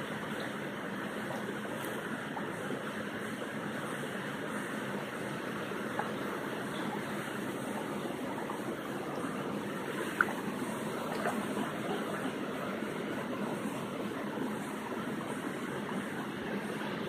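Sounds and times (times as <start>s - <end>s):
stream water running over rocks: 0.0s - 17.0s.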